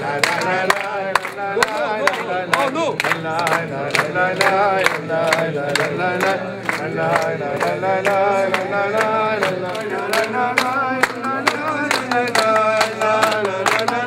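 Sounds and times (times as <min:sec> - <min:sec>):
group of people singing in unison: 0:00.0 - 0:14.0
rhythmic hand-clapping: 0:00.0 - 0:14.0.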